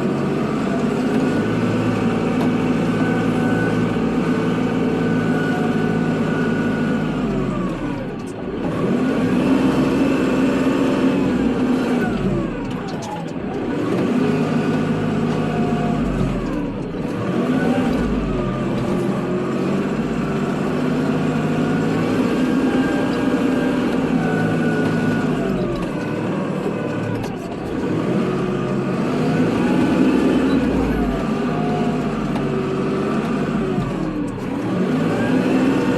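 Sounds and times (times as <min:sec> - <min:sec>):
tractor diesel engine revving: 0:00.0 - 0:35.9.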